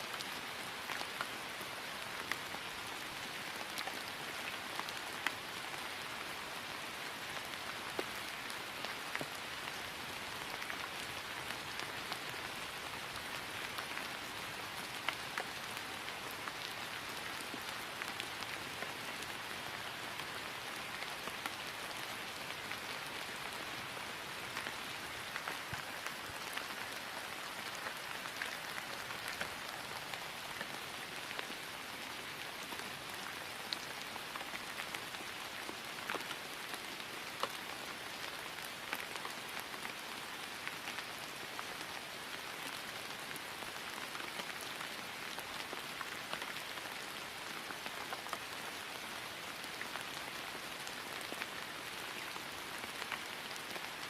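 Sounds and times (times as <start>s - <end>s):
rain falling on grass: 0.0s - 54.0s.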